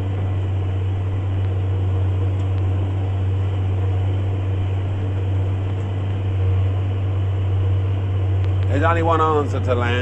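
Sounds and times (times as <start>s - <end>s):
tractor engine droning: 0.0s - 10.0s.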